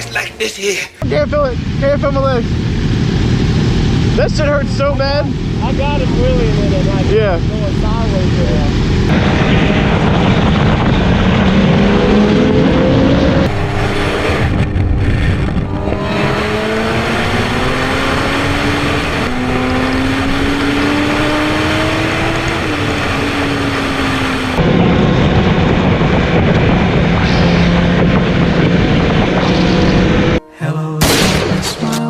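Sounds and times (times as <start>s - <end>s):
motorcycle engine accelerating: 1.0s - 30.4s
wind rush: 1.2s - 30.4s.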